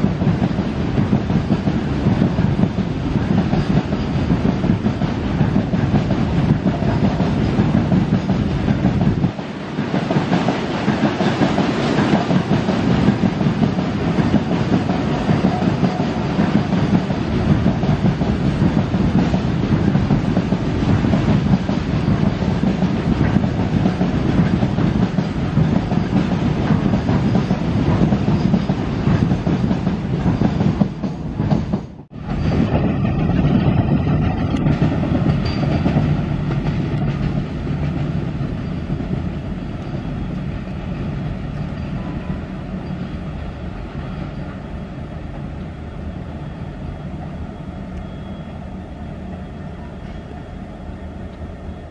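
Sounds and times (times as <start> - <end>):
train wheels clattering over rail joints: 0.0 - 44.6.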